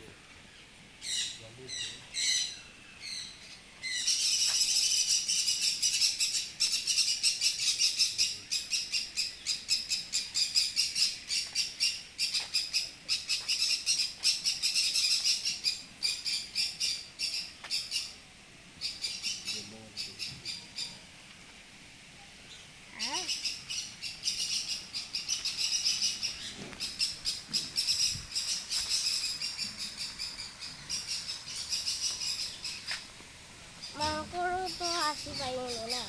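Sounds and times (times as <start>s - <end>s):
flock of small birds chirping: 0.0s - 18.2s, 18.8s - 21.1s, 22.2s - 36.0s.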